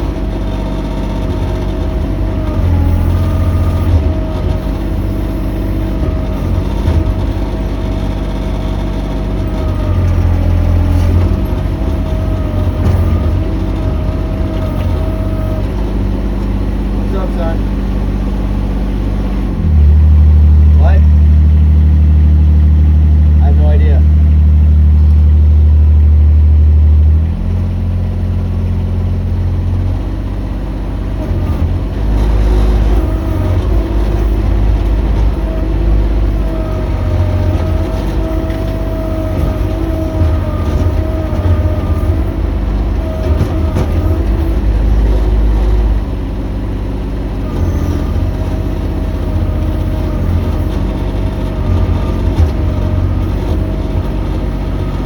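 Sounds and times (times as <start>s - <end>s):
mini excavator engine running: 0.0s - 55.0s.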